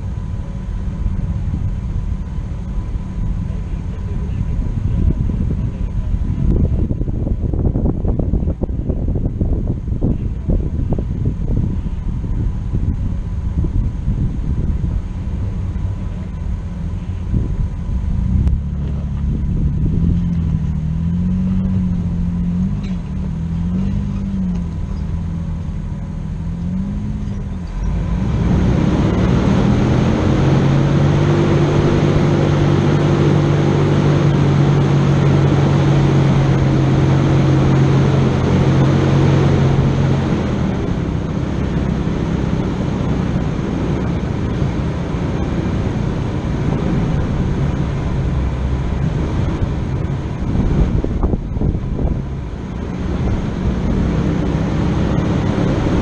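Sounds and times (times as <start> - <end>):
rushing noise: 0.0 - 56.0
vehicle engine revving: 0.0 - 56.0.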